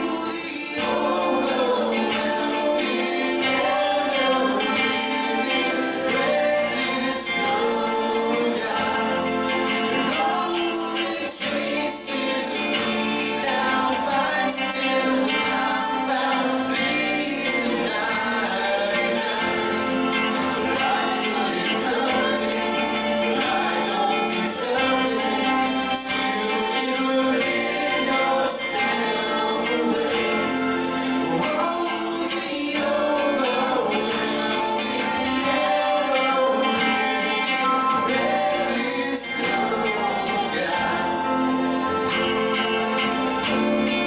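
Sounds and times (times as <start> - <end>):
instrumental accompaniment: 0.0 - 44.0
voices singing together: 0.0 - 44.0.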